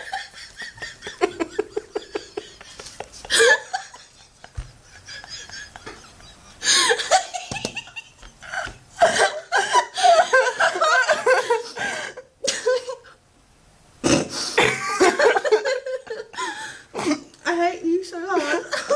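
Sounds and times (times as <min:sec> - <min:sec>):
woman laughing hard: 0:00.0 - 0:13.1, 0:14.6 - 0:17.1, 0:18.4 - 0:18.9.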